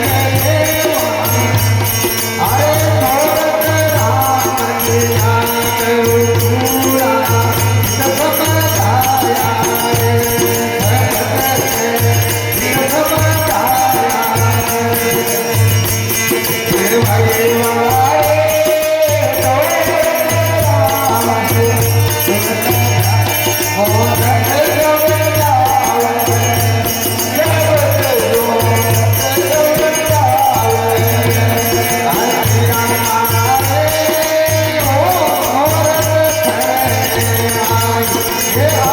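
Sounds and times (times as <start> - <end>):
jingling rattling percussion: 0.0 - 38.9.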